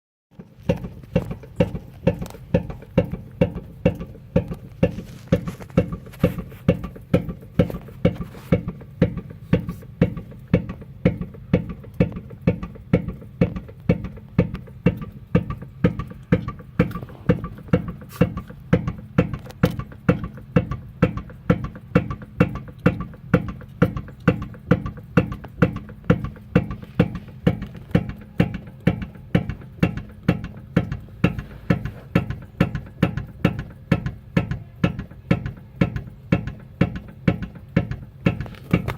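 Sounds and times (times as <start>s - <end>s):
suspension knocking: 0.3s - 38.9s.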